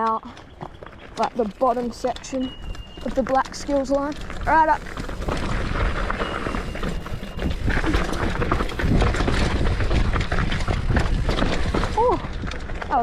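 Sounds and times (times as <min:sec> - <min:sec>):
bike rattling over bumps: 0:00.0 - 0:13.0
tyres on loose dirt: 0:00.0 - 0:13.0
wind rumble on microphone: 0:00.5 - 0:13.0.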